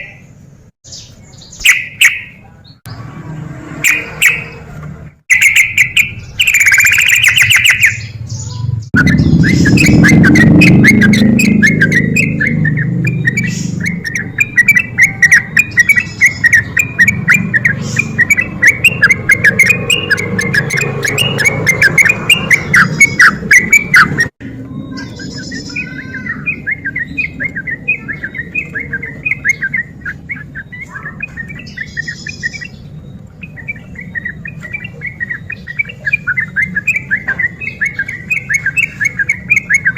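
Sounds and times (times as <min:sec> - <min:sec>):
bulbul singing chattering notes: 0:03.8 - 0:04.6, 0:05.3 - 0:39.9.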